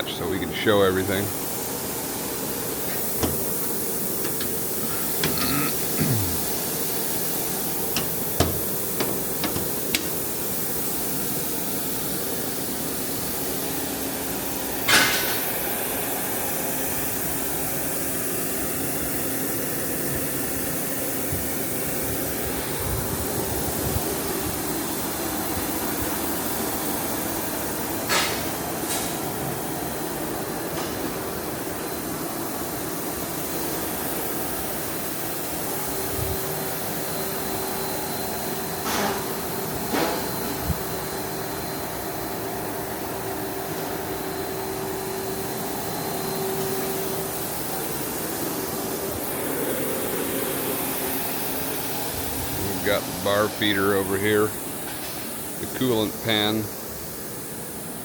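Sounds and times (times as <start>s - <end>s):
machine hum and hiss: 0.0s - 58.0s.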